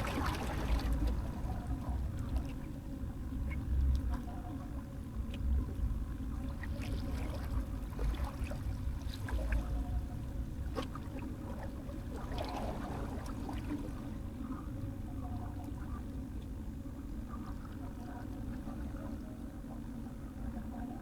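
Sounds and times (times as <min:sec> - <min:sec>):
water lapping at shoreline: 0:00.0 - 0:21.0.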